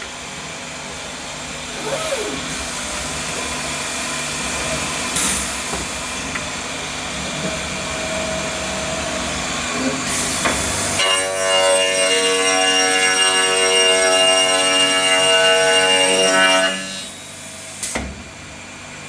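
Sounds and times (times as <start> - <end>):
machining centre running: 0.1 - 19.0
machine whine of several tones: 1.7 - 18.6.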